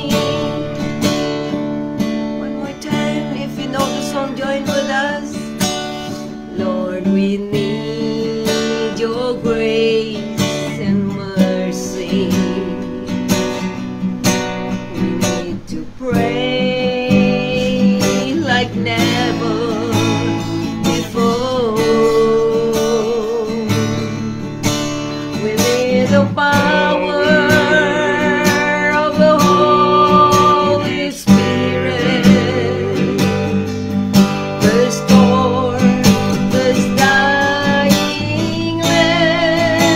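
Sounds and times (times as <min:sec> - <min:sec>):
woman singing worship song: 0:00.0 - 0:01.6, 0:02.2 - 0:13.8, 0:14.6 - 0:24.4, 0:25.2 - 0:39.9
acoustic guitar strumming: 0:00.0 - 0:39.9.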